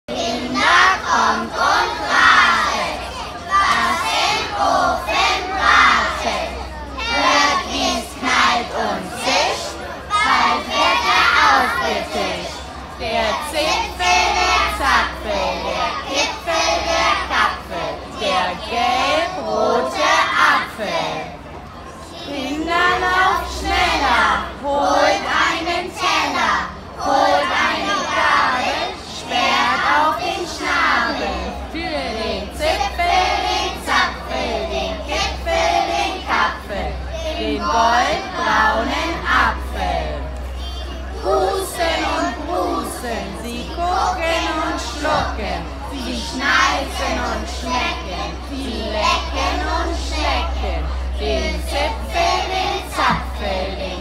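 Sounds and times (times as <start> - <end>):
children's voices in unison: 0.2 - 31.7, 32.5 - 53.8.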